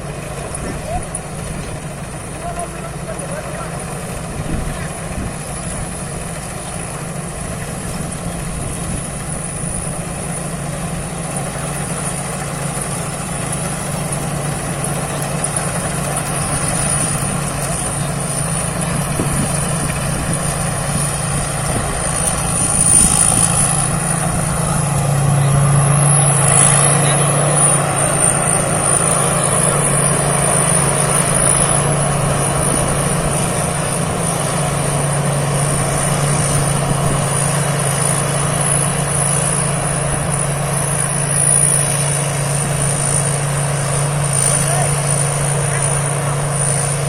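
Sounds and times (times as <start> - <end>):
combine harvester engine hum: 0.0 - 47.0
machinery high whine: 0.0 - 47.0.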